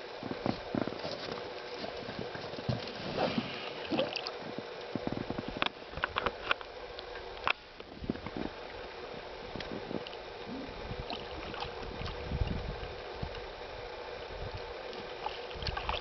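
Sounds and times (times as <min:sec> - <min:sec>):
water sloshing against boat: 0:00.2 - 0:13.4, 0:14.8 - 0:16.0.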